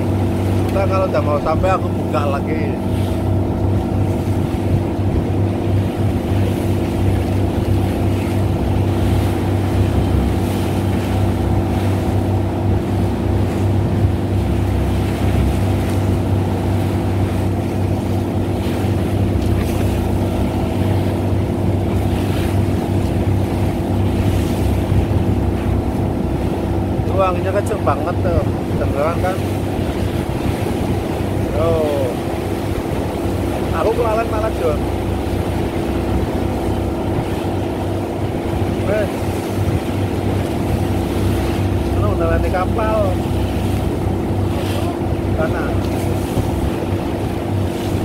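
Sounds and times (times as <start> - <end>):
boat engine running: 0.0 - 48.0.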